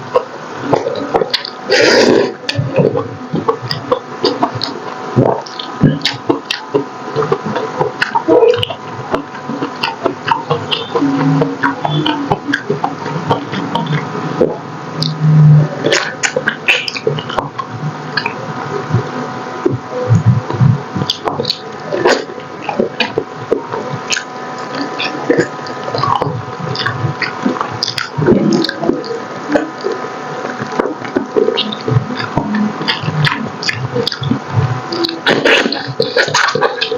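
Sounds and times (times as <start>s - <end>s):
wet chewing and lip smacks: 0.1s - 15.2s, 15.8s - 36.9s.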